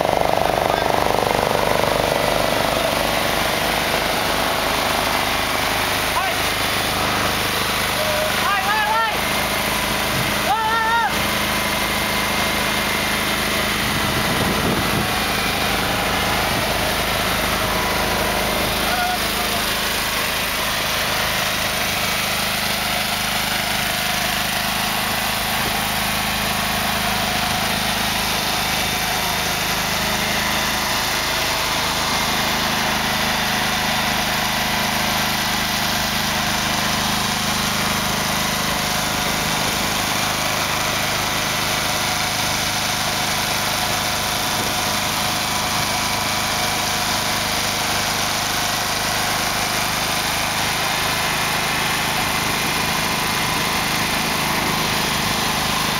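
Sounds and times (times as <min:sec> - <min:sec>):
heavy vehicle engine drone: 0:00.0 - 0:55.9.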